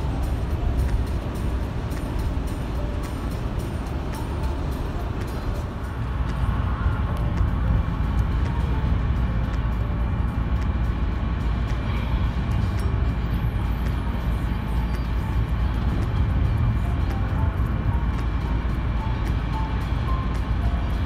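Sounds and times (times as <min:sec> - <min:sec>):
vehicle road rumble: 0:00.0 - 0:21.0.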